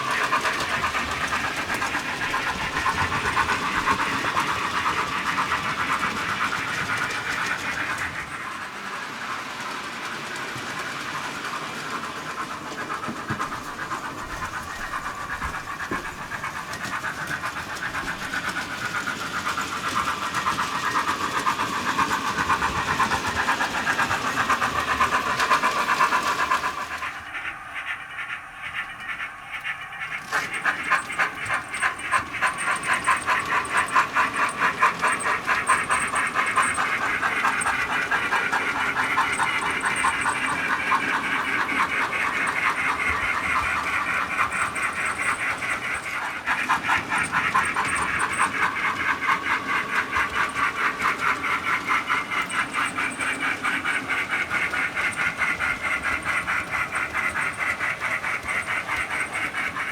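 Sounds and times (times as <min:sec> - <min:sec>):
model steam locomotive chuffs: 0:00.0 - 0:59.9.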